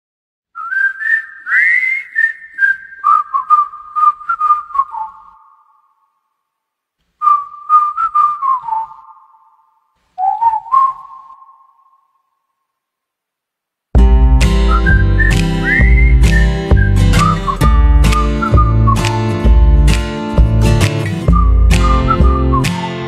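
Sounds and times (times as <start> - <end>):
whistled melody: 0.6 - 6.2, 7.2 - 12.4, 14.0 - 23.0.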